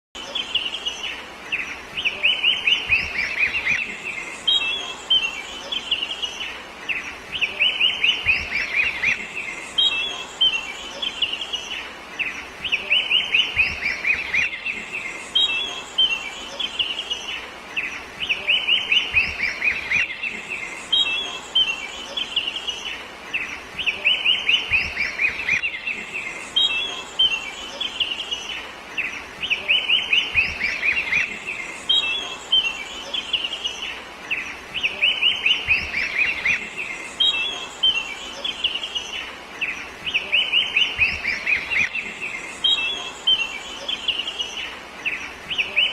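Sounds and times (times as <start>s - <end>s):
bird singing: 0.2s - 45.9s.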